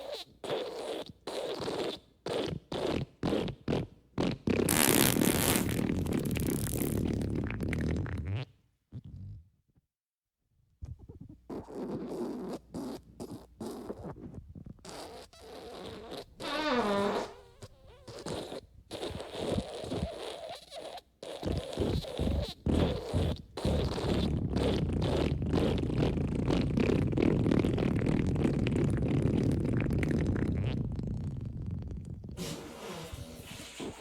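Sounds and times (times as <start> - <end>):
fart sound effects: 0.0 - 8.5, 14.9 - 34.0.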